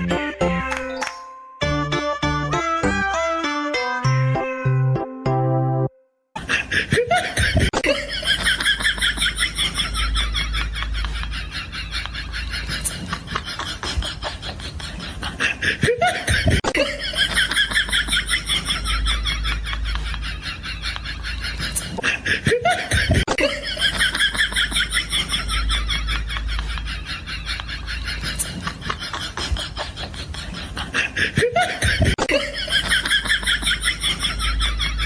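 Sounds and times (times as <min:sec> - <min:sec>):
rapid chuckling laughter: 0:06.4 - 0:35.0.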